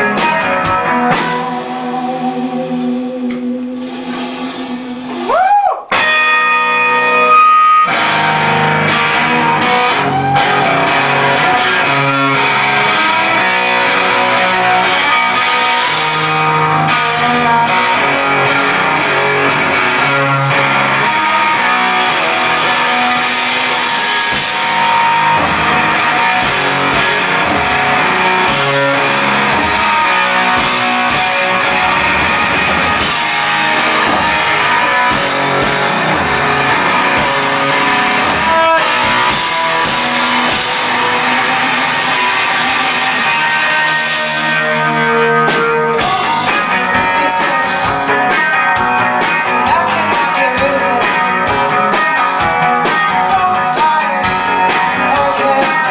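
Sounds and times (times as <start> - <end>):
drum kit: 0.0 - 55.9
electric guitar: 0.0 - 55.9.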